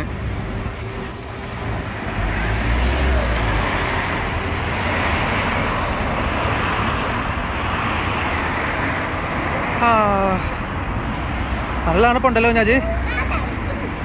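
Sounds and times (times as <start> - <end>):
cars driving past: 0.0 - 14.0
heavy vehicle rumble: 0.0 - 14.0.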